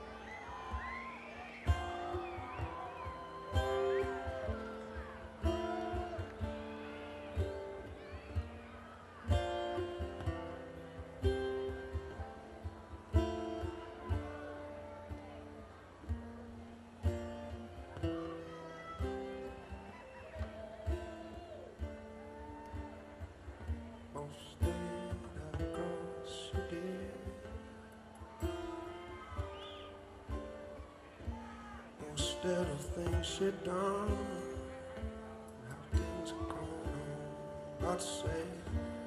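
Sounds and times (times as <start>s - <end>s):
strummed acoustic guitar: 0.0s - 39.0s.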